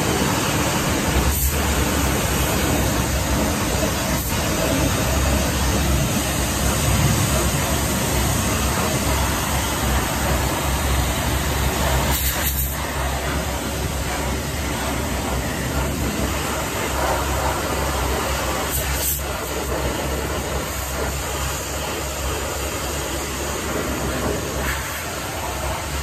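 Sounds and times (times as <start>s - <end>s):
pressure washer jet hissing: 0.0s - 26.0s
pump droning: 0.0s - 26.0s.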